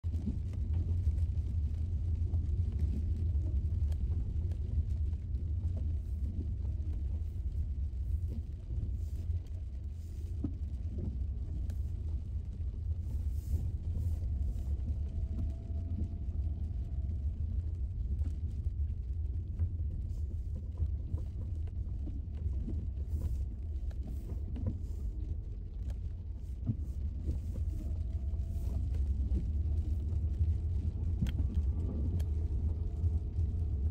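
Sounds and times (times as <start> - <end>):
car tyres and engine rumbling: 0.0 - 33.9
gravel ticks and clicks: 0.0 - 33.9.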